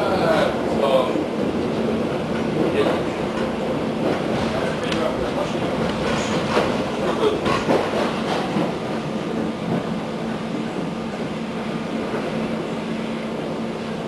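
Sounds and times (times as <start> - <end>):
train wheels clacking over track: 0.0 - 12.5
train rolling rumble: 0.0 - 14.0.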